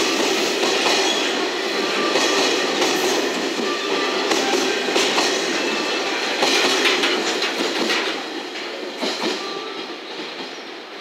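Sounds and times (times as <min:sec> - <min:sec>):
train rolling rumble: 0:00.0 - 0:11.0
wheels clacking over rail joints: 0:01.9 - 0:10.9.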